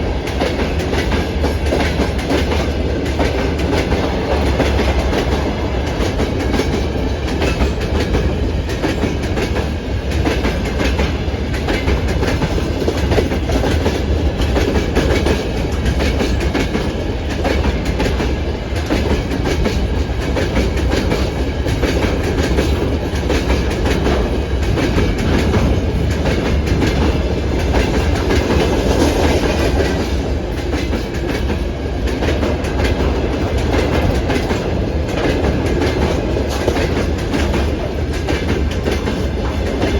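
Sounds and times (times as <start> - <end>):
continuous train rumble: 0.0 - 39.9
train wheels clattering on rails: 0.0 - 39.9.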